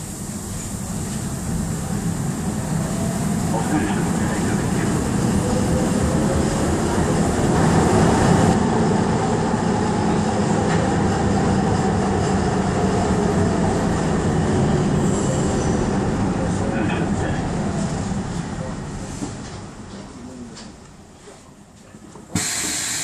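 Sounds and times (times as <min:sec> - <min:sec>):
train wheels rumbling on rail: 0:00.0 - 0:20.9.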